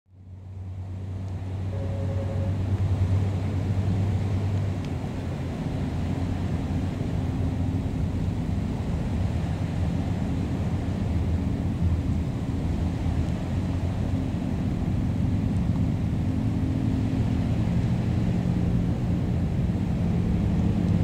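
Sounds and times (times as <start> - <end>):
ferry engine drone: 0.1 - 21.0.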